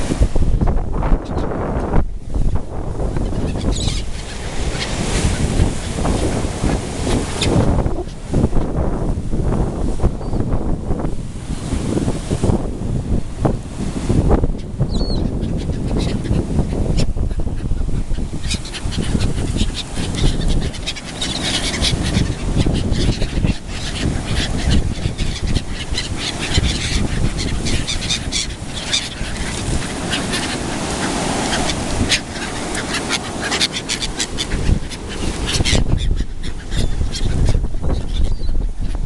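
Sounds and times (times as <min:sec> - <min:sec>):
gulls calling and squabbling: 0:01.0 - 0:01.6, 0:02.8 - 0:09.0, 0:14.3 - 0:39.0.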